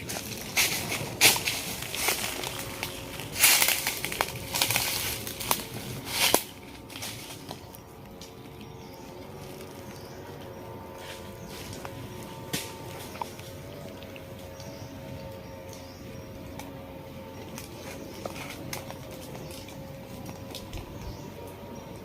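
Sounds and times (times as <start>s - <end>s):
dry plant material crunching: 0.0s - 22.0s.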